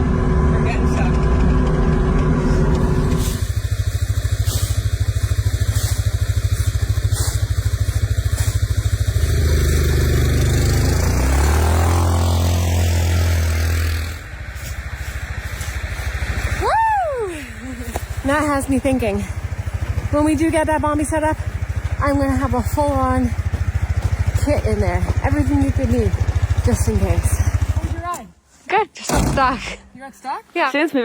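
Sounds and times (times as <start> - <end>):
off-road vehicle engine running: 0.0 - 28.4.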